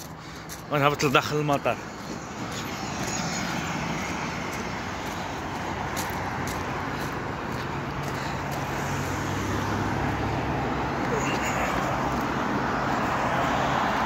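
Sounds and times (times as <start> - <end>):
cars driving past: 0.0 - 14.0
vehicle engine hum: 0.0 - 14.0.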